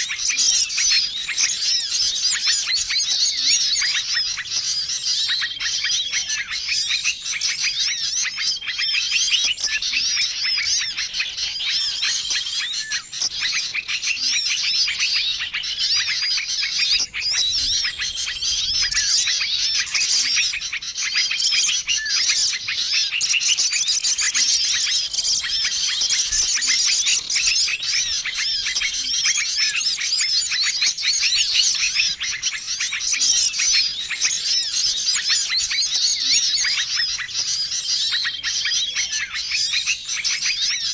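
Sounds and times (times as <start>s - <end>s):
songbirds chirping chorus: 0.0s - 40.9s.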